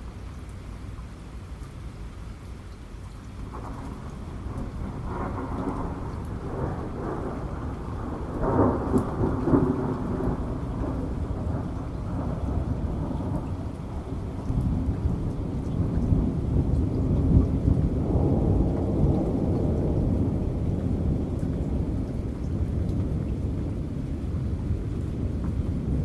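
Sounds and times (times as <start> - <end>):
steady rain: 0.0 - 26.0
raindrop ticks: 0.1 - 26.0
rolling thunder: 3.4 - 26.0.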